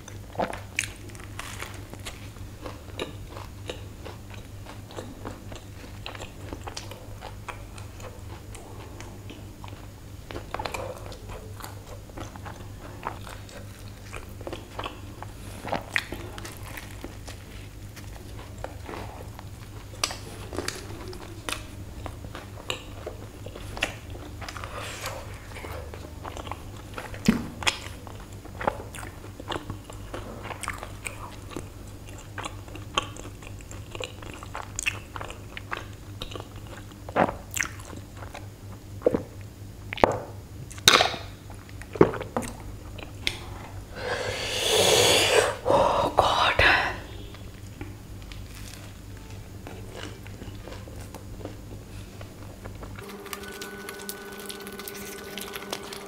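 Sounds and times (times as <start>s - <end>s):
biting and chewing a burger: 0.0s - 43.8s, 47.2s - 56.0s.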